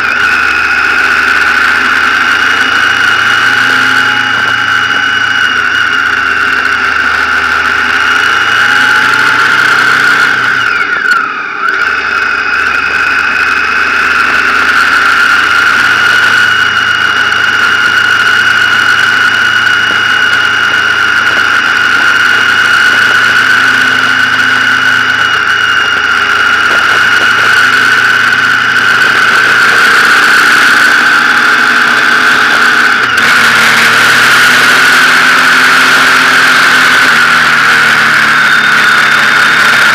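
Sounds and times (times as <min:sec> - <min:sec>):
motorcycle engine whining: 0:00.0 - 0:39.9.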